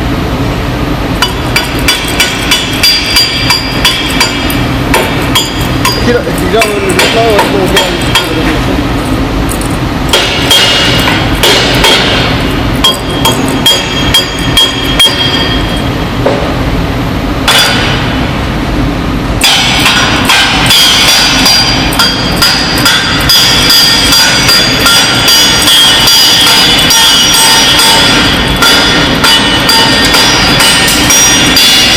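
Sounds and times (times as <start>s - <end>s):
metal-on-metal clanking: 1.2s - 16.6s, 17.5s - 18.2s, 19.4s - 31.9s.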